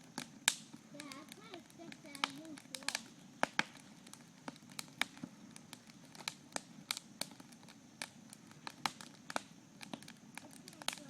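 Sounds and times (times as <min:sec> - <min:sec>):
campfire wood crackling: 0:00.0 - 0:11.0
low rush of burning fire: 0:00.0 - 0:11.0.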